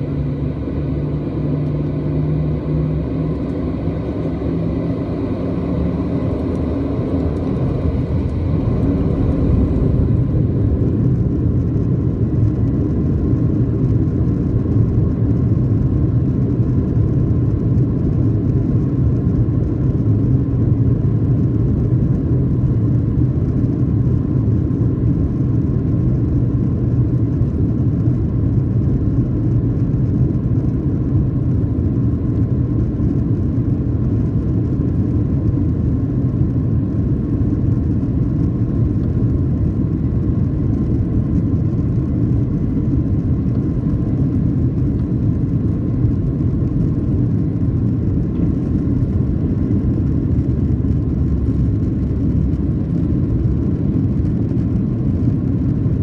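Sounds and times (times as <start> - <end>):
faint high fan whine: 0.0 - 56.0
jet engines loud rumble: 0.0 - 56.0.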